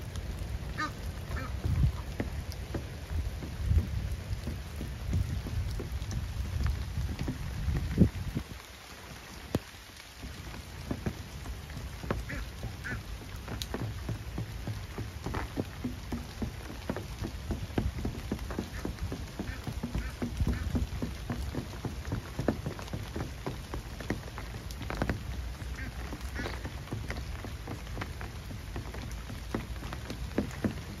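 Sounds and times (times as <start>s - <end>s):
rain falling on lake: 0.0s - 31.0s.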